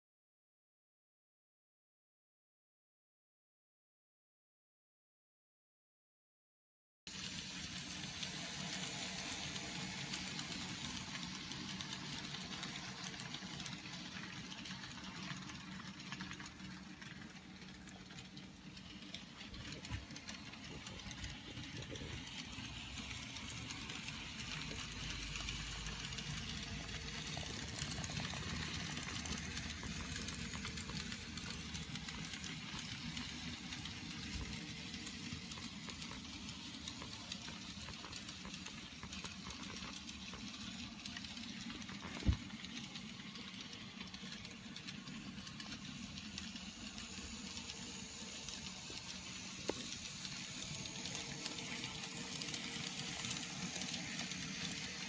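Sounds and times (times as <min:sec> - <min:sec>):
model train motor hum: 0:07.1 - 0:55.0
wheels rattling over track: 0:07.1 - 0:55.0.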